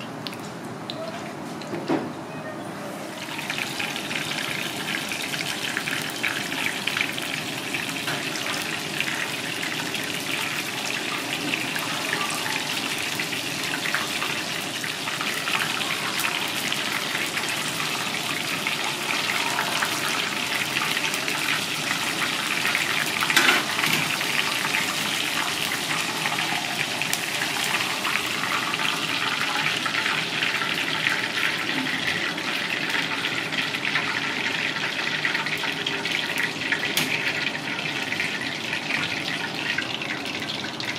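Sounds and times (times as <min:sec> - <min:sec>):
fish deep-frying in oil: 0:02.9 - 0:40.9.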